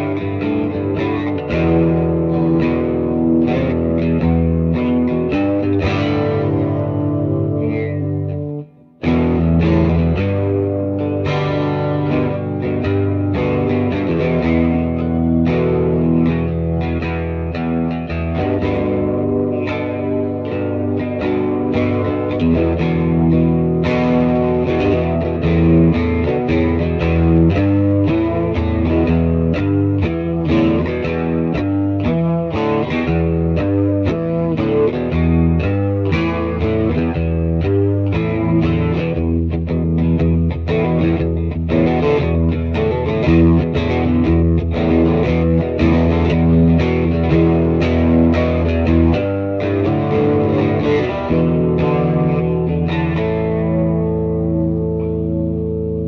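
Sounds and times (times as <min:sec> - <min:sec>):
guitar riff: 0:00.0 - 0:56.0.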